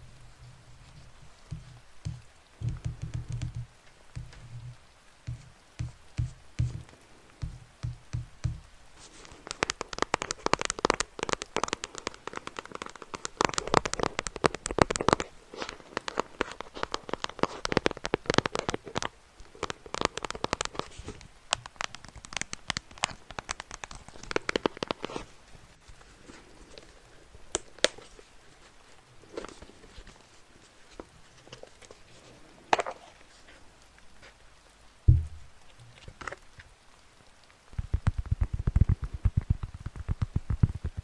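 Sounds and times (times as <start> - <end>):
crinkling and crackling close up: 0.0 - 41.0.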